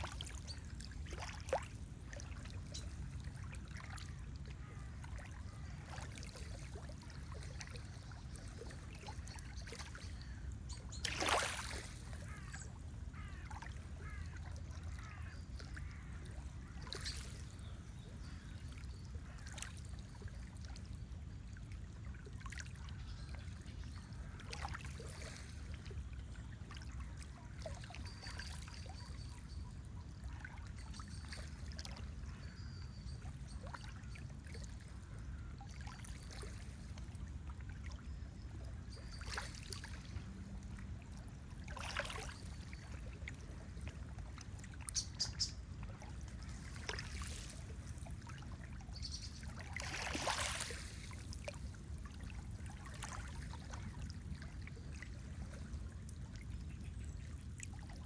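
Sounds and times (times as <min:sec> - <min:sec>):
lake water lapping and splashing: 0:00.0 - 0:58.0.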